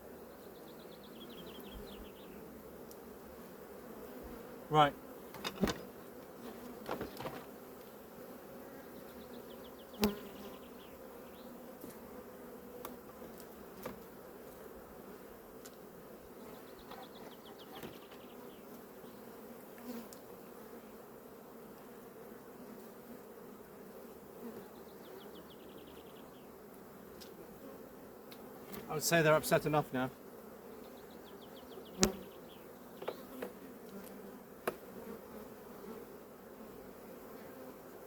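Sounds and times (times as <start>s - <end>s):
bees buzzing: 0.0s - 38.0s.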